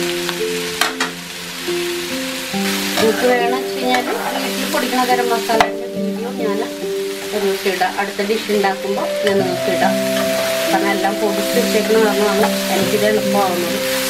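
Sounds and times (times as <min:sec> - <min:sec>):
background music held notes: 0:00.0 - 0:14.0
vegetables sizzling in oil: 0:00.0 - 0:14.0.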